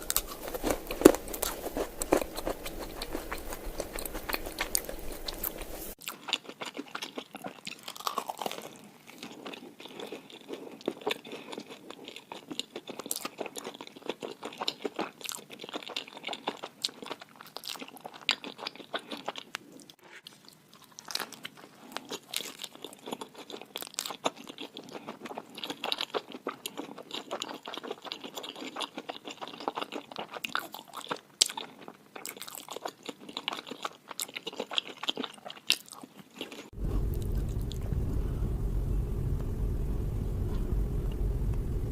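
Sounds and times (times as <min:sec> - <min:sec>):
person chewing crunchy food: 0:00.0 - 0:37.8.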